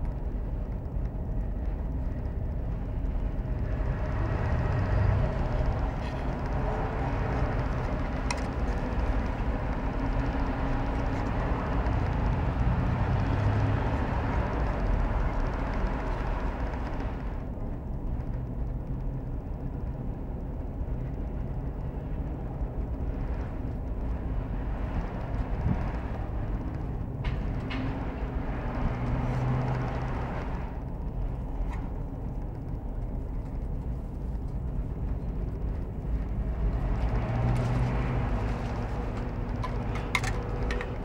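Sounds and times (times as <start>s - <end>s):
low background rumble: 0.0s - 41.0s.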